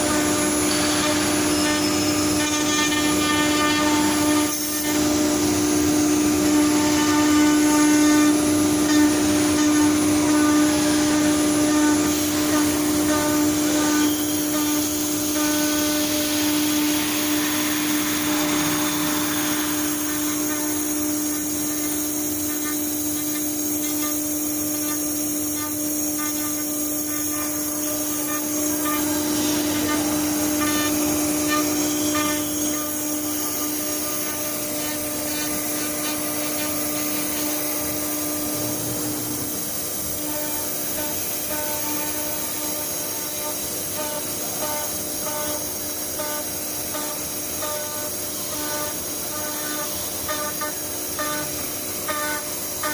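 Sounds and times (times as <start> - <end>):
router machine hum: 0.0 - 52.9
rushing hiss: 0.0 - 52.9.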